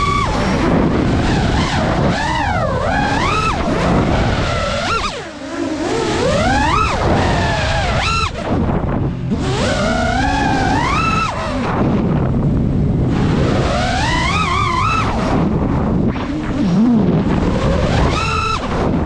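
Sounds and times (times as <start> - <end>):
drone motors whining: 0.0 - 19.0
steady low rush: 0.0 - 19.0.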